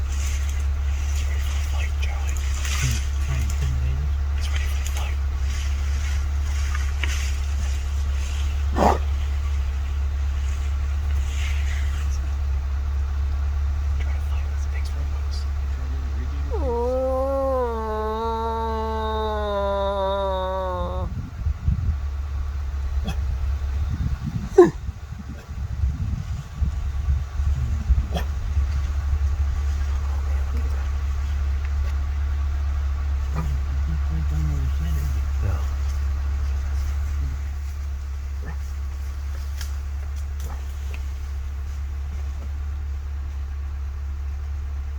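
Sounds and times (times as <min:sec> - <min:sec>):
vehicle engine humming: 0:00.0 - 0:44.9.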